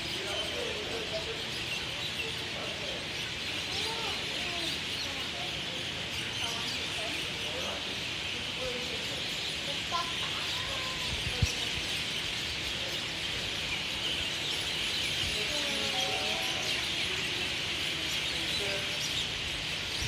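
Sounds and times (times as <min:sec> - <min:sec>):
flock of birds chattering: 0:00.0 - 0:20.0.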